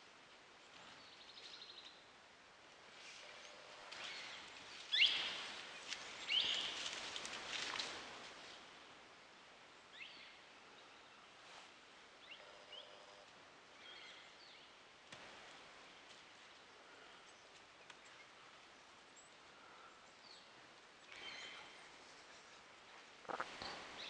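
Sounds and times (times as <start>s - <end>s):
faint outdoor background hiss: 0.0s - 24.0s.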